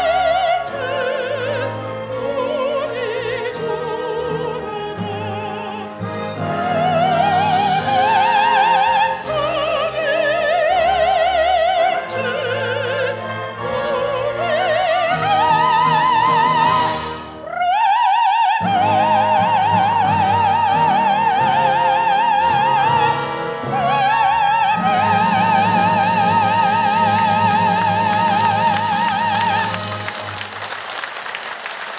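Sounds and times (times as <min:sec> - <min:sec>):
instrumental accompaniment: 0:00.0 - 0:17.7, 0:18.6 - 0:31.1
woman singing classical style: 0:00.0 - 0:30.5.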